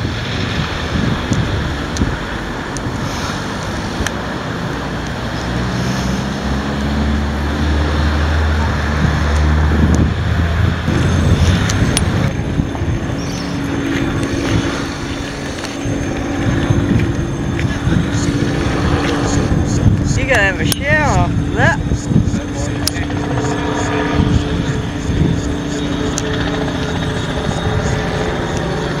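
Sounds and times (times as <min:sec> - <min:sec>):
outdoor rumble: 0:00.0 - 0:29.0
vehicle engine running: 0:00.0 - 0:29.0
wind on microphone: 0:00.0 - 0:29.0.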